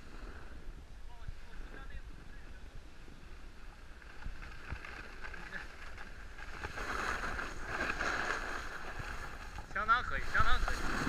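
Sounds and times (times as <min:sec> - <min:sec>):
snowboard sliding over snow: 0:00.0 - 0:11.0
wind rumbling on microphone: 0:00.0 - 0:11.0.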